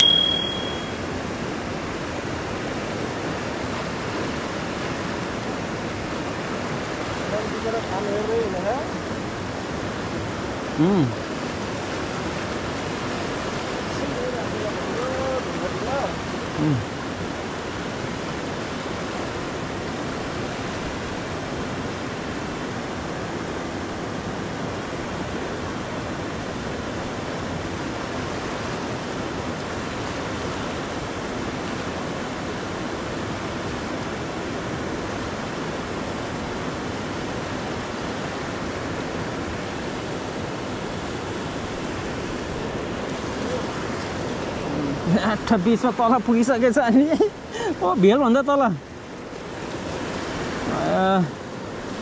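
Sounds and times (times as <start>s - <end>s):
river rushing over rapids: 0.0s - 52.0s.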